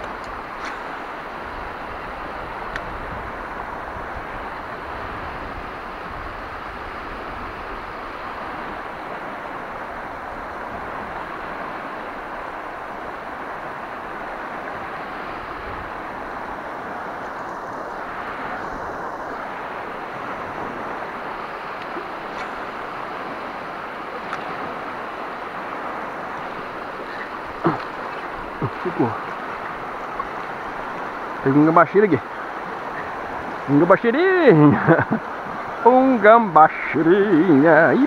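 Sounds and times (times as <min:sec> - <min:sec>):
river rapids rushing over rocks: 0:00.0 - 0:38.0.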